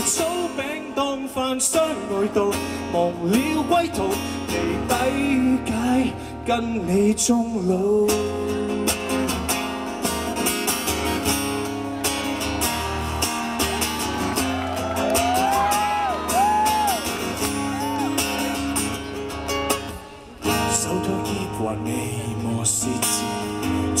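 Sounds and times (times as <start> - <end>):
amplified acoustic guitar strumming: 0.0 - 24.0.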